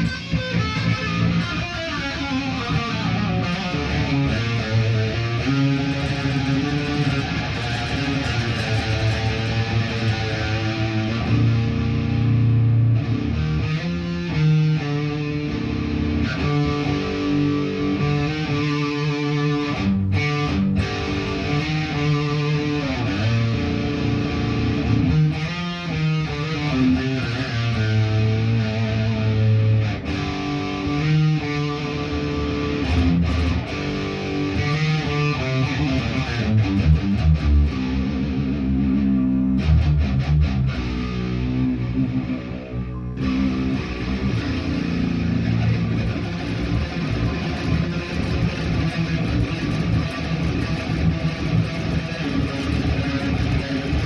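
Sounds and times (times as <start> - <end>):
guitar playing chords: 0.0 - 54.0.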